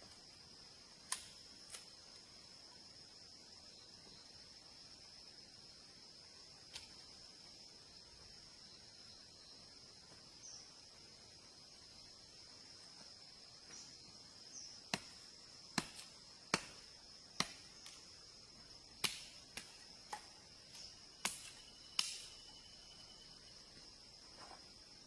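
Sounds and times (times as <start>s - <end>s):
crickets droning: 0.0s - 25.0s.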